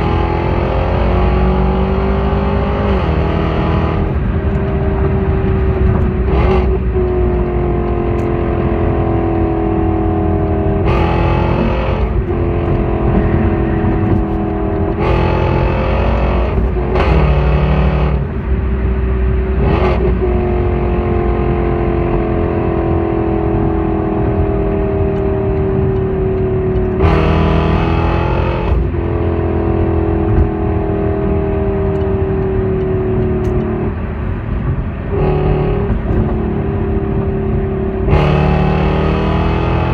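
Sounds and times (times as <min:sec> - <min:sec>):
car exhaust droning: 0:00.0 - 0:39.9.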